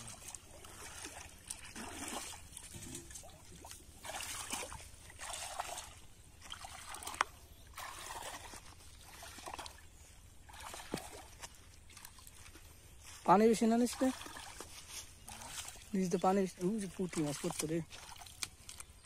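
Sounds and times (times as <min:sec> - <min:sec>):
splashing of wading in shallow water: 0:00.0 - 0:19.0.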